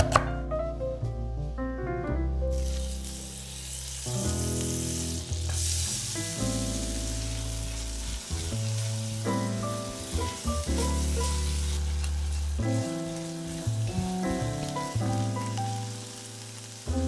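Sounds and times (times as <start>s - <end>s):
background music: 0.0s - 17.0s
butter sizzling in a saucepan: 2.5s - 17.0s.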